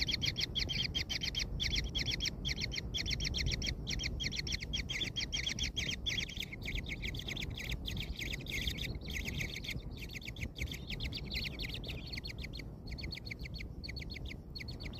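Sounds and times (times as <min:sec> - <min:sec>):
low steady rumble: 0:00.0 - 0:14.9
nestlings chirping: 0:00.0 - 0:14.9.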